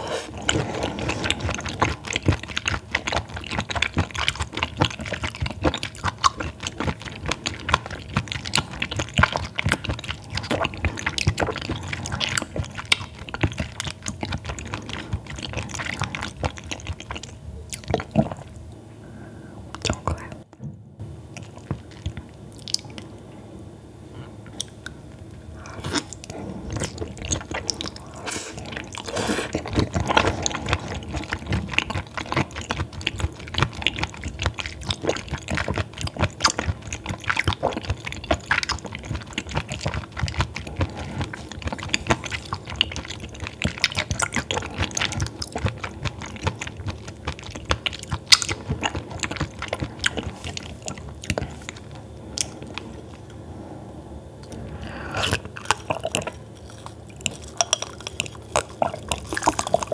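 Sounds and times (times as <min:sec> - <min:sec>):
mouth chewing clicks and smacks: 0:00.3 - 0:18.6, 0:21.3 - 0:23.1, 0:25.8 - 0:53.4, 0:54.4 - 0:59.9.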